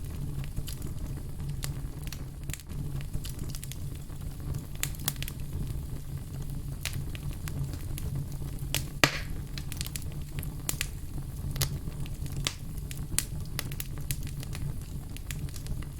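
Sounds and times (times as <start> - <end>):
fire rumbling: 0.0 - 15.9
logs crackling and popping: 0.0 - 15.9.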